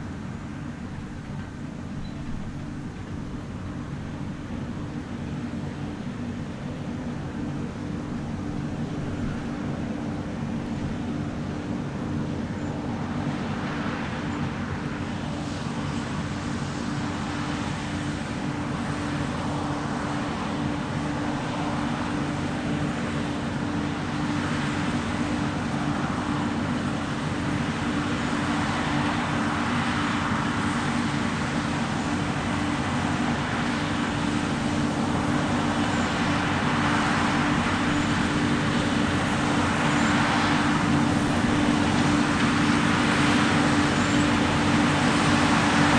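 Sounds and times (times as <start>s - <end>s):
diesel machinery engine drone: 0.0s - 45.9s.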